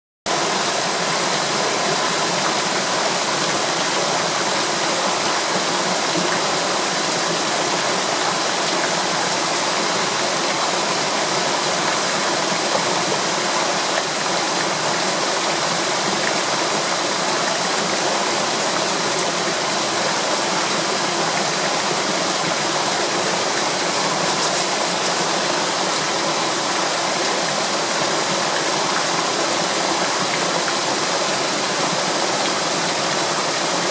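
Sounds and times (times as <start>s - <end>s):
waterfall pouring: 0.3s - 33.9s.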